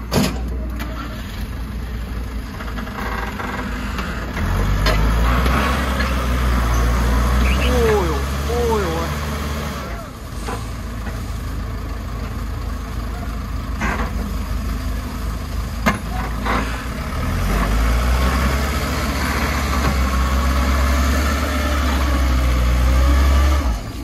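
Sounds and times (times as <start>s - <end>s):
dump truck engine running: 0.0s - 24.0s.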